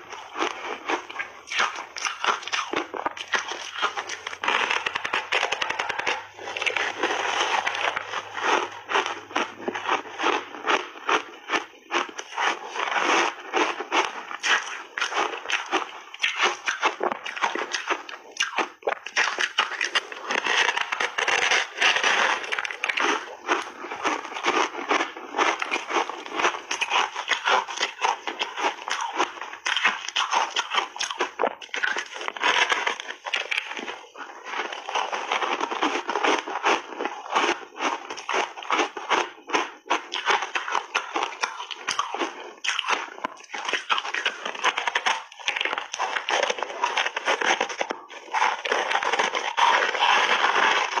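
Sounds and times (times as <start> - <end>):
crunching and chewing ice: 0.0 - 51.0.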